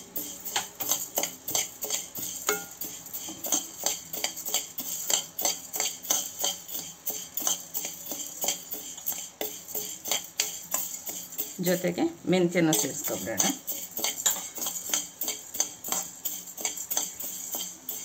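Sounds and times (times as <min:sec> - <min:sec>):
grains rattling against pan: 0:00.0 - 0:18.0
metal spoon stirring dry grains: 0:00.0 - 0:18.0.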